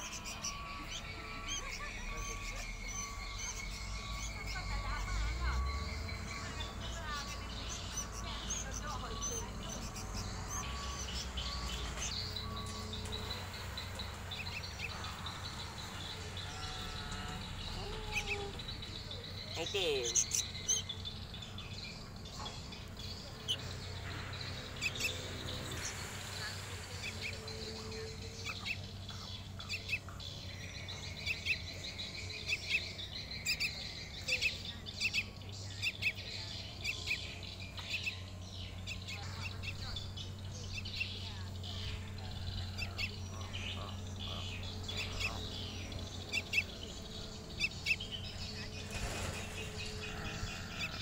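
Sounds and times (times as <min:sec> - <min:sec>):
young birds chirping: 0:00.0 - 0:51.0.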